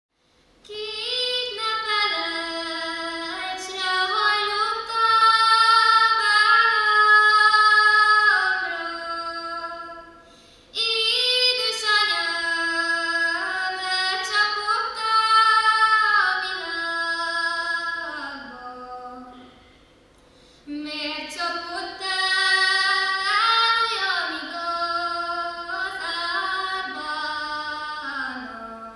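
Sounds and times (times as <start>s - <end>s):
woman singing unaccompanied: 0.6s - 10.2s, 10.8s - 19.5s, 20.7s - 28.9s.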